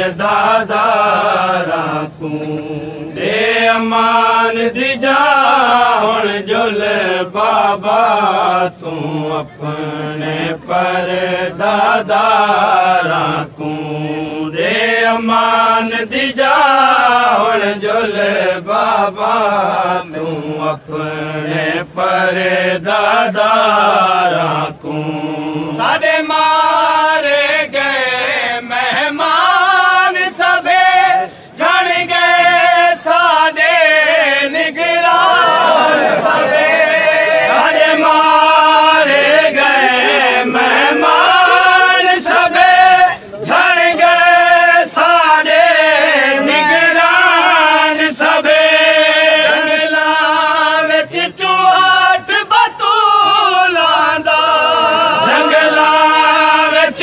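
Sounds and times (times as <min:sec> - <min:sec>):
men chanting an elegy: 0:00.0 - 0:57.0.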